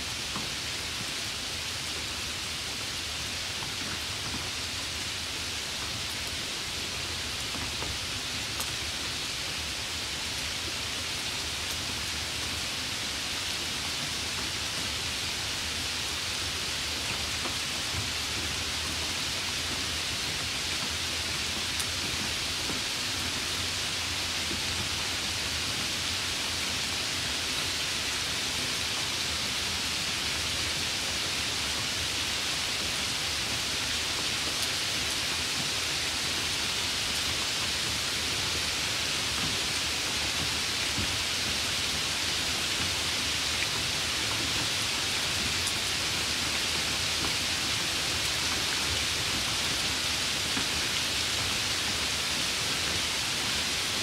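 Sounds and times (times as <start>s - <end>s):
light rain hiss: 0.0s - 54.0s.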